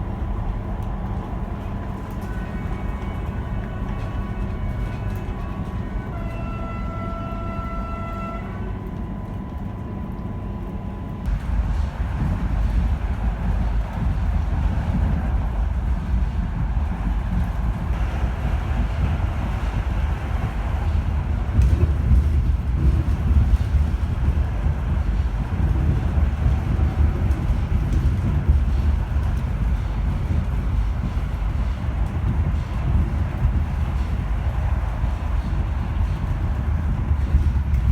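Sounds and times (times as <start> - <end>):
train horn: 0.0 - 10.5, 11.2 - 37.9
train wheels rumbling on track: 0.0 - 37.9.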